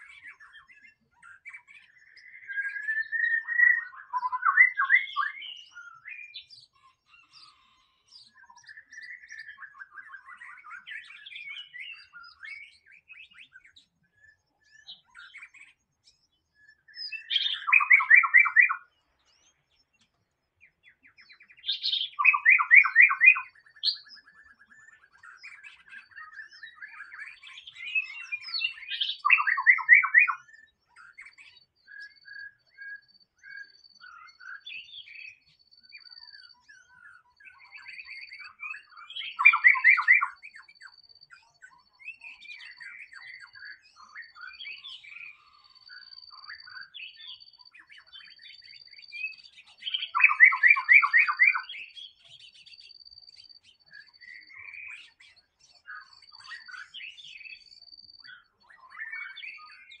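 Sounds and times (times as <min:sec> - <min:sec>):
bird singing: 0:00.0 - 1:00.0.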